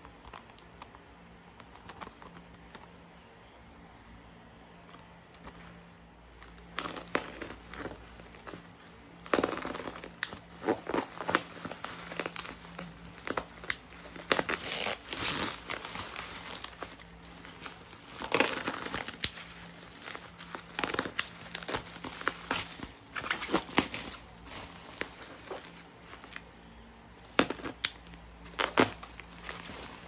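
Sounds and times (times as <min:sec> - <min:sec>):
bubble wrap crinkling: 0:04.8 - 0:30.0.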